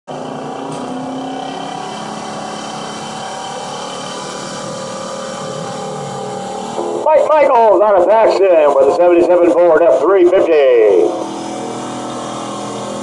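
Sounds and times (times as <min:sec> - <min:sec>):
pickup engine droning: 0:00.1 - 0:13.0.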